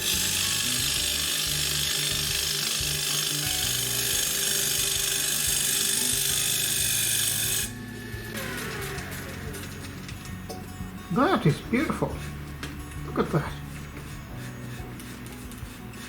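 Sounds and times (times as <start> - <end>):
background music: 0.0 - 16.0
gouge cutting wood on lathe: 0.0 - 16.0.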